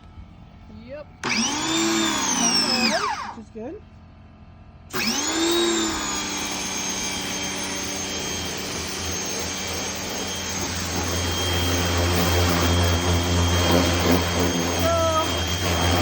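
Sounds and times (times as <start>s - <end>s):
pressure washer motor whine: 0.0s - 3.6s, 4.8s - 16.0s
low hum: 0.0s - 16.0s.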